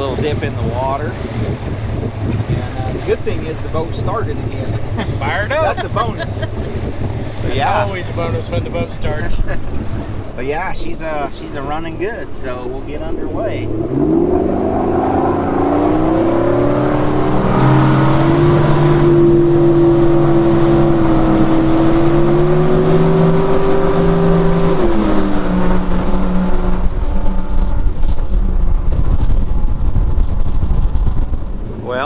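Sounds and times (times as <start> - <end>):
boat engine under throttle: 0.0 - 32.0
water noise: 0.0 - 32.0
wind noise: 0.0 - 32.0.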